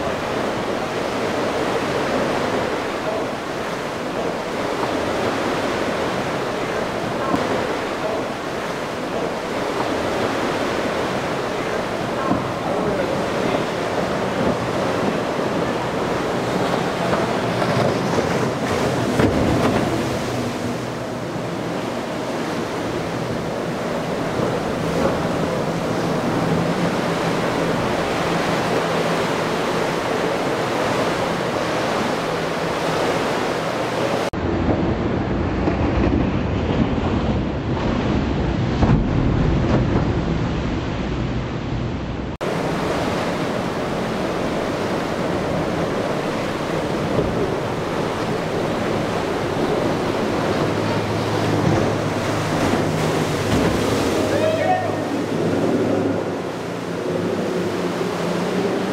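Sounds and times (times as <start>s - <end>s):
outboard engines droning: 0.0s - 58.9s
waves breaking: 0.0s - 58.9s
wind buffeting microphone: 0.0s - 58.9s.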